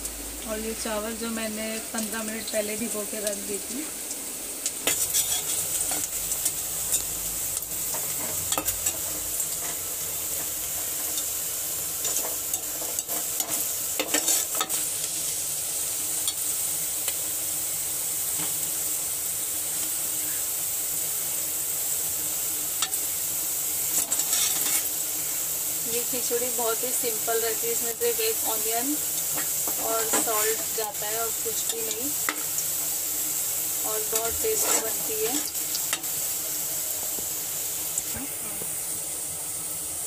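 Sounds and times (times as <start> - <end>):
onion sizzling in hot oil: 0.0 - 40.0.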